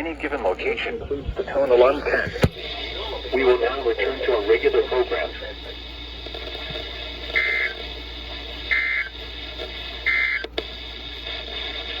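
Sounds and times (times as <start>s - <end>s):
radio hiss: 0.0s - 12.0s
warbling data bursts: 0.0s - 12.0s.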